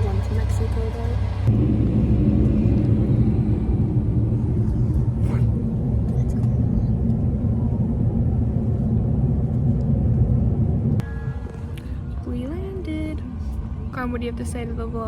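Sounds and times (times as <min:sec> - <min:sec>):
plane engine rumble in cabin: 0:00.0 - 0:15.0.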